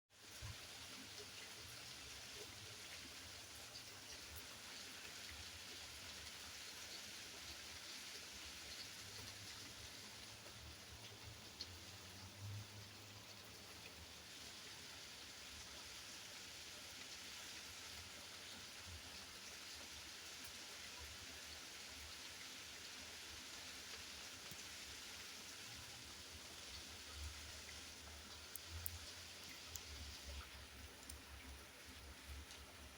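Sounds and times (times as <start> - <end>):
steady rain hiss: 0.2 - 32.9.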